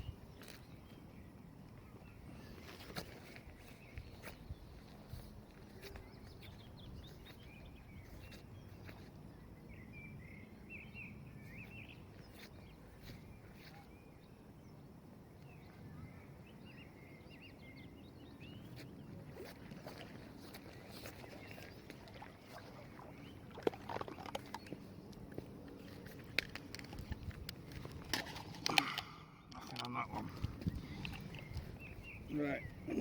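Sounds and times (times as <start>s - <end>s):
small birds twittering: 0.0s - 33.0s.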